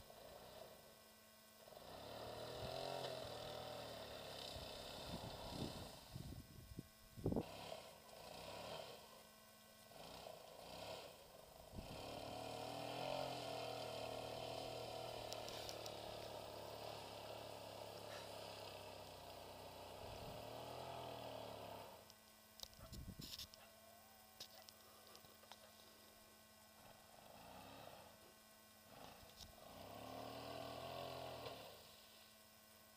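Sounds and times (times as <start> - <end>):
distant quad bike engine: 0.0 - 32.9.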